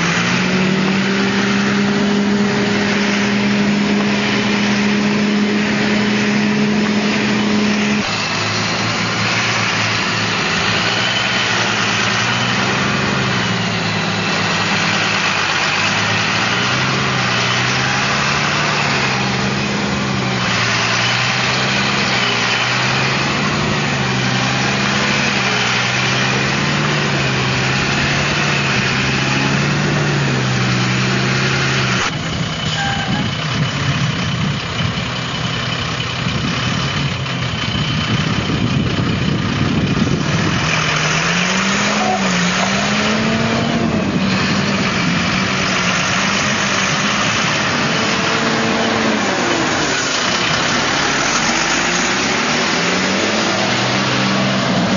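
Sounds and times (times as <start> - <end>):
diesel truck engine idling: 0.0 - 54.9
truck rumbling over cobblestones: 0.0 - 54.9.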